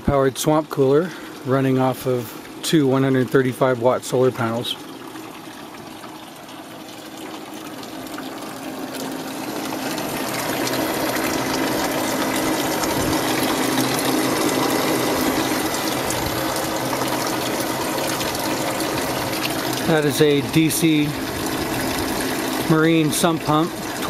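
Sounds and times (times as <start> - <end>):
fan running with low hum: 0.0 - 24.0
water running from pump: 0.0 - 24.0.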